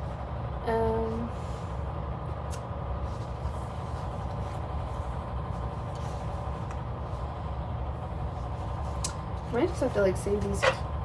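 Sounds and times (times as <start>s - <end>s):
low background hum and rumble: 0.0s - 11.0s.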